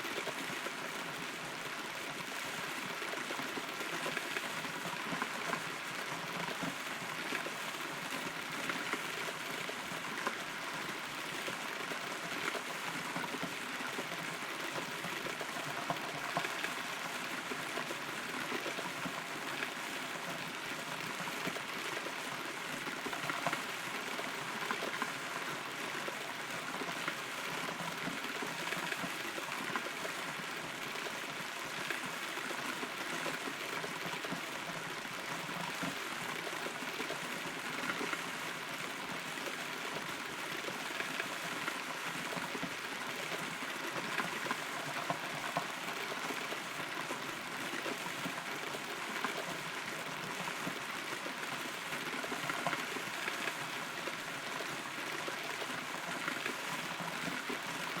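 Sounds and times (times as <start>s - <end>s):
rain dripping on wood and leaves: 0.1s - 58.0s.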